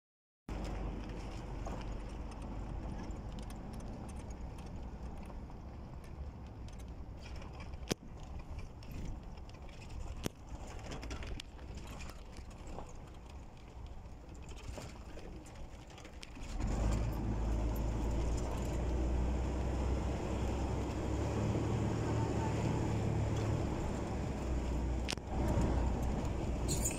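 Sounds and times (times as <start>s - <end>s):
vehicle rumbling on dirt track: 0.5s - 26.9s.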